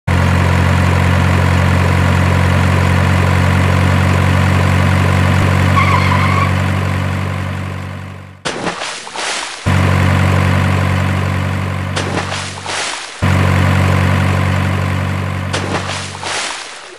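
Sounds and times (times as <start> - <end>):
truck diesel engine idling: 0.1 - 8.4, 9.7 - 12.0, 13.2 - 16.2.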